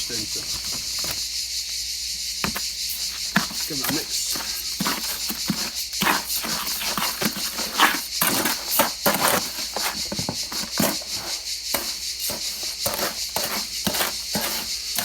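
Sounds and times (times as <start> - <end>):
tool scraping through gritty mix: 0.0 - 1.4, 2.1 - 15.0.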